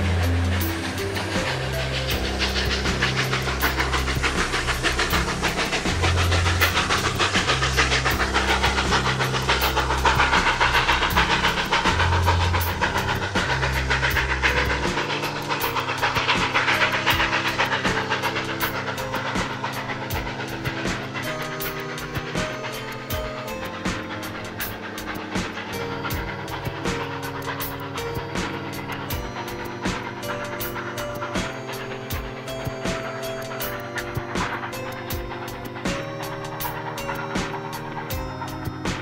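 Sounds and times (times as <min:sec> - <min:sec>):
background music: 0:00.0 - 0:39.0
steam train rushing: 0:00.0 - 0:39.0.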